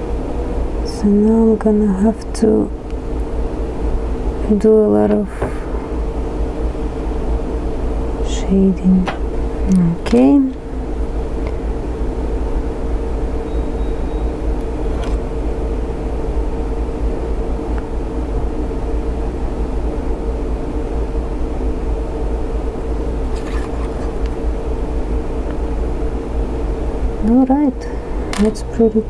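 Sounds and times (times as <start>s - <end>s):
machine humming and whining: 0.0s - 29.0s.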